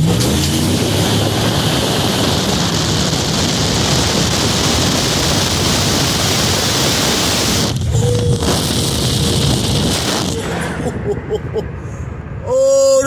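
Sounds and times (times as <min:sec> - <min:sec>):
pickup engine running: 0:00.0 - 0:11.6
wind and road noise rushing: 0:00.0 - 0:13.0.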